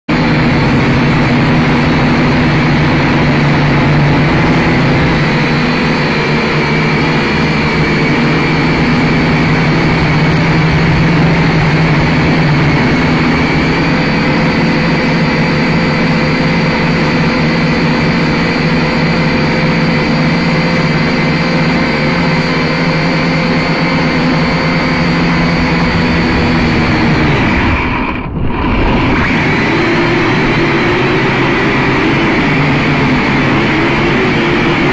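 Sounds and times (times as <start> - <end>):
drone propellers whining: 0.1 - 34.9.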